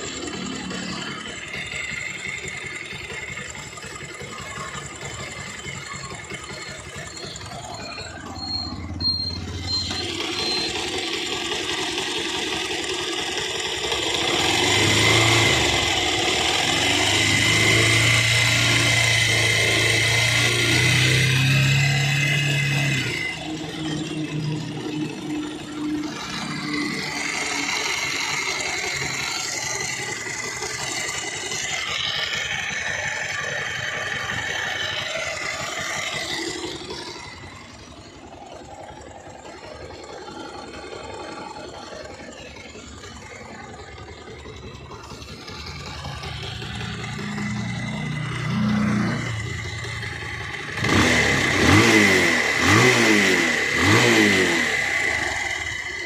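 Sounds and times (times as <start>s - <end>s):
engine revving: 0.0s - 43.8s, 44.5s - 56.0s
motorcycle engine rattling: 0.0s - 56.0s.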